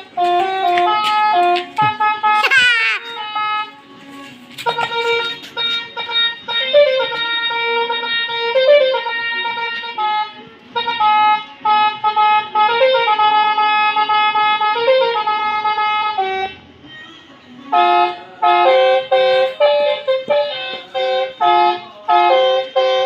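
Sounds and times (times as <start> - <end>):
multi-tone bicycle horn melody: 0.0 - 16.8, 17.7 - 23.0.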